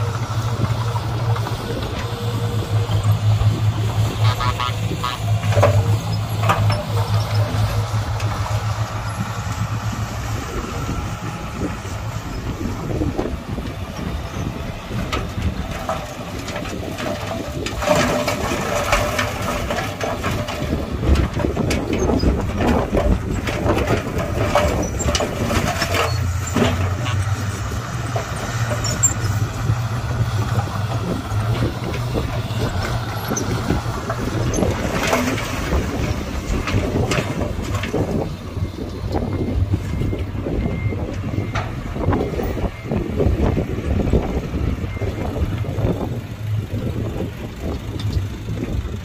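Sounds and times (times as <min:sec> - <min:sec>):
metal clanks and knocks: 0:00.0 - 0:46.1
heavy machinery diesel engine: 0:00.0 - 0:49.0.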